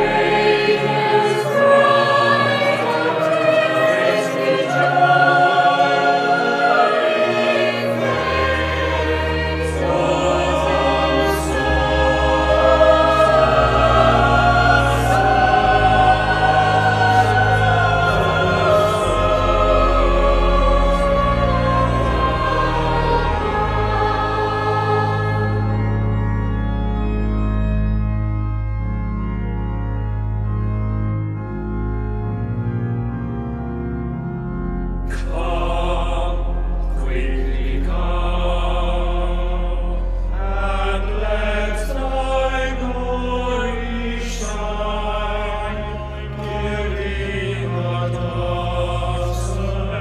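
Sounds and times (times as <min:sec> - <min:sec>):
choir singing: 0:00.0 - 0:28.0, 0:34.8 - 0:50.0
organ chords: 0:00.0 - 0:50.0.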